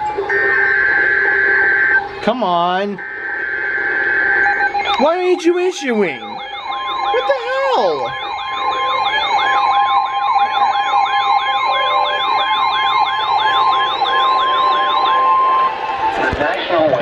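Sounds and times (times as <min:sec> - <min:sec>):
steady high alert tone: 0:00.3 - 0:16.2.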